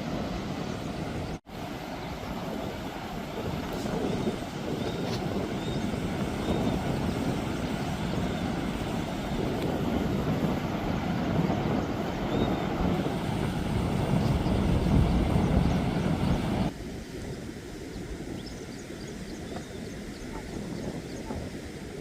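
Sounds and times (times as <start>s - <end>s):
floodwater rushing: 0.0s - 18.3s.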